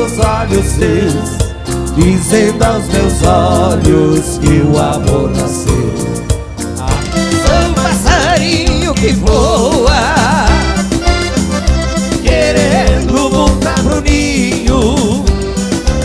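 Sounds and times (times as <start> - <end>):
accordion melody: 0.0 - 16.0
live band playing dance music: 0.0 - 16.0.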